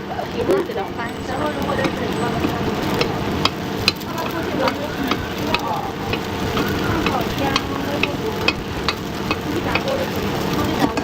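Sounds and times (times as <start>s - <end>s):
food sizzling in hot oil: 0.0s - 11.0s
taps of stirring in a pan: 0.0s - 11.0s.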